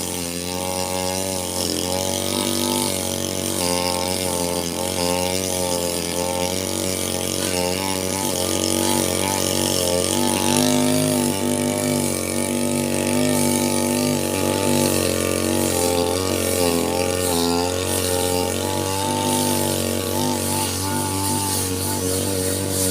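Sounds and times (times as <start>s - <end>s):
brush cutter cutting grass: 0.0s - 22.9s.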